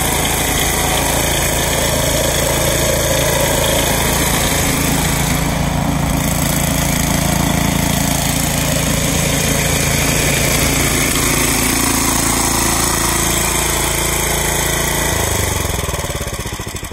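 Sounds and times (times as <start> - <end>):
snowblower engine running: 0.0 - 16.9.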